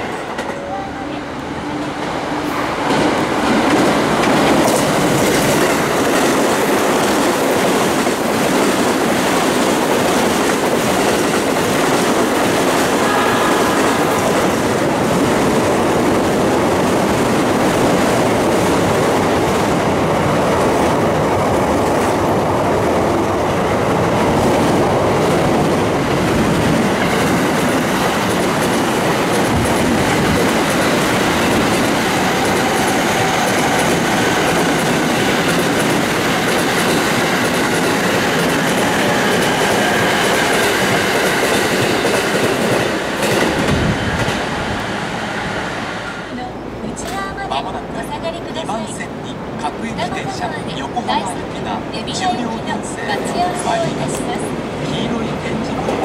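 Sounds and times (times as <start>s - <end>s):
train wheels on rails: 0.0s - 49.5s
train whine: 0.0s - 49.6s.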